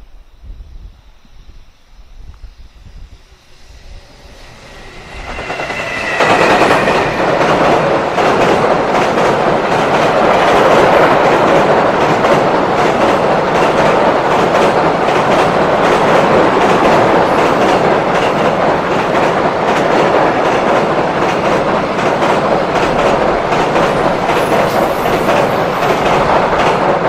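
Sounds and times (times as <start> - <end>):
freight train rumble on bridge: 0.0 - 27.0.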